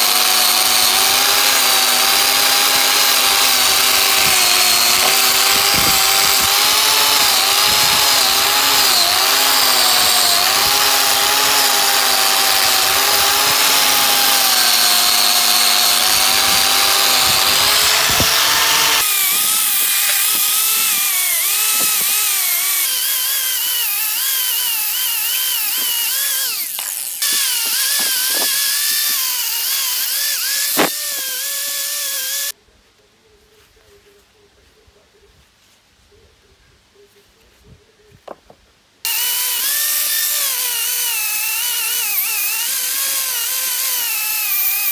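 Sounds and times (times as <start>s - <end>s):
wire wheel grinder on metal: 0.0s - 32.5s, 39.1s - 44.9s.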